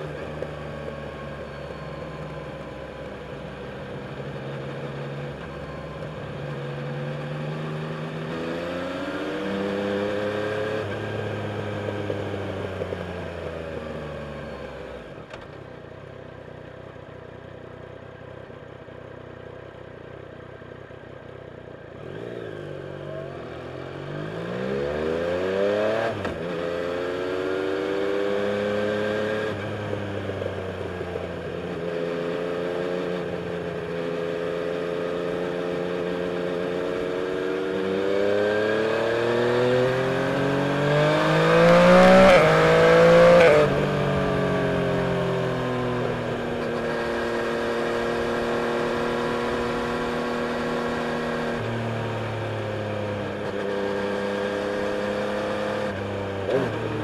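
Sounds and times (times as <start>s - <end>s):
motorcycle engine revving: 0.0s - 15.1s, 21.9s - 57.0s.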